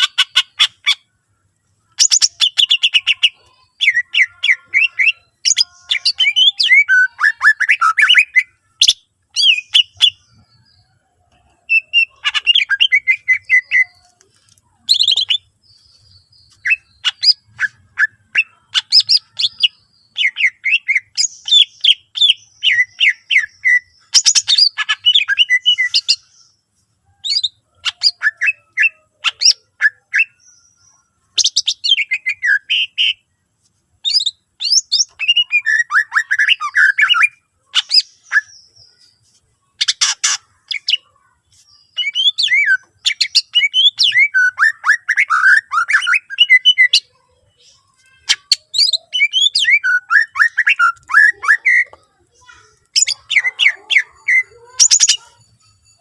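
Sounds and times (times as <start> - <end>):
bird singing chirps whistles and trills: 1.9 - 14.0, 14.8 - 33.3, 34.0 - 56.0.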